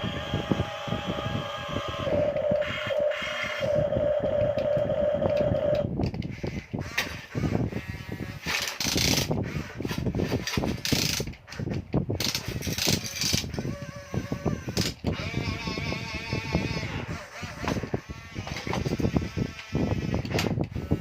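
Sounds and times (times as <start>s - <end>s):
toy gear motors clicking and rattling: 0.0s - 21.0s.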